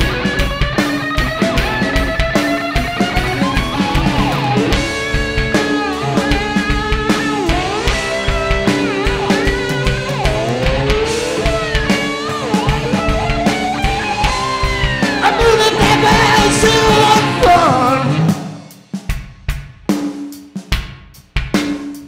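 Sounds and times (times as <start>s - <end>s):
sliding guitar notes: 0.0s - 18.6s
drum hits: 0.0s - 22.0s
rock band playing loudly: 0.0s - 22.0s.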